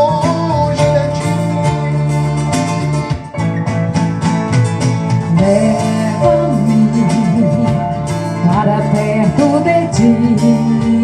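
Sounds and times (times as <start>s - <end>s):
person singing: 0.0s - 3.2s, 5.3s - 11.0s
acoustic guitar strumming: 0.0s - 11.0s.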